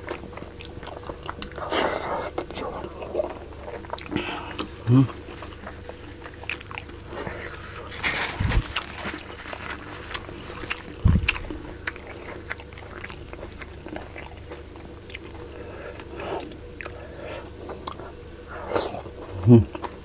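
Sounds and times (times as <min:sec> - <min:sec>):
chewing food: 0:00.0 - 0:20.0.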